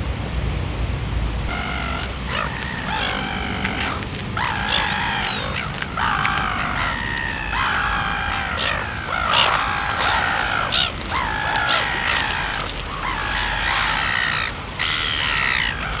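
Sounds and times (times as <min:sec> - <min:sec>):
gulls squawking: 0:01.5 - 0:16.0.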